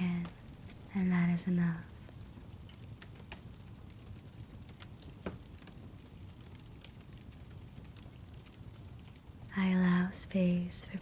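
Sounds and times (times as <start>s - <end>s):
fire popping: 0.0s - 11.0s.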